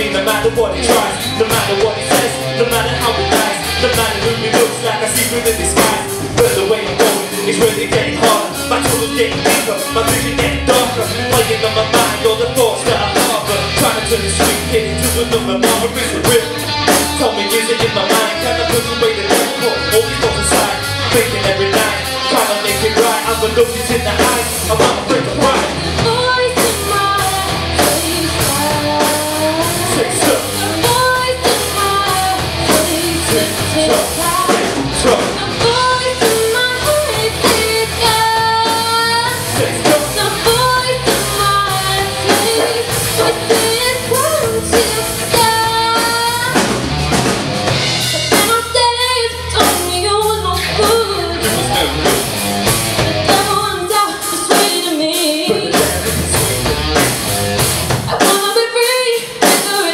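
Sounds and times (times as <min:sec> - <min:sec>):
drum kit beat: 0:00.0 - 0:59.9
electric guitars: 0:00.0 - 0:59.9.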